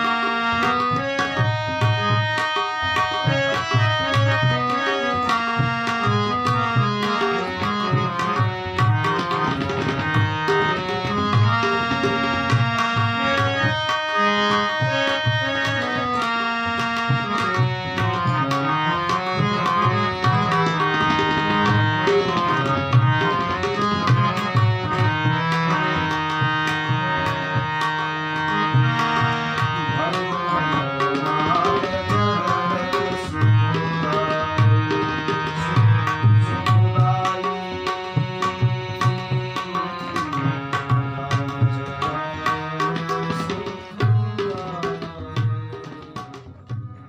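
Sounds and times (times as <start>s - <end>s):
harmonium chords: 0.0s - 47.0s
tabla playing rhythm: 0.0s - 47.0s.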